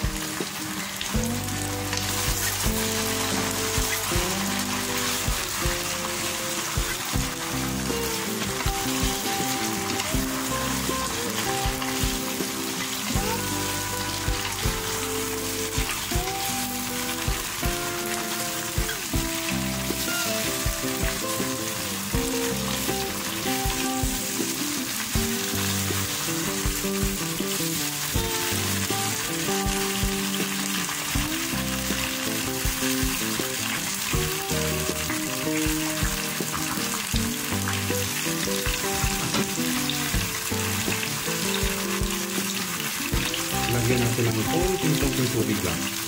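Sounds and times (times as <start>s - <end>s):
vegetables sizzling in a frying pan: 0.0s - 46.0s.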